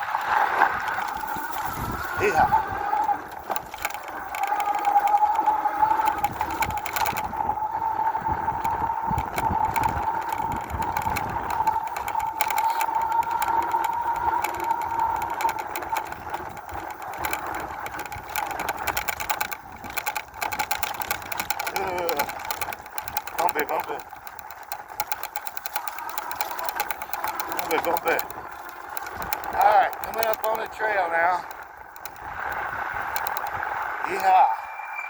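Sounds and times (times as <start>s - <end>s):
bike clicking and rattling: 0.0s - 34.4s
electric bike motor whining: 0.0s - 35.0s.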